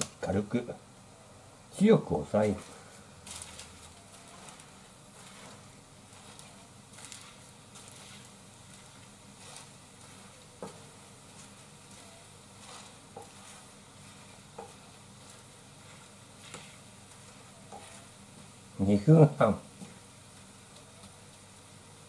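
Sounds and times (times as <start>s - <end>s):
batter sizzling in a frying pan: 1.5s - 22.0s.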